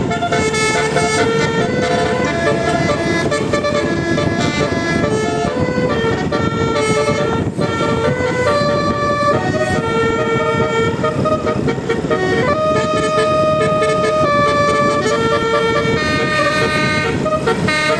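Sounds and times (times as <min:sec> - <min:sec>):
multi-tone bus horn tune: 0:00.0 - 0:17.9.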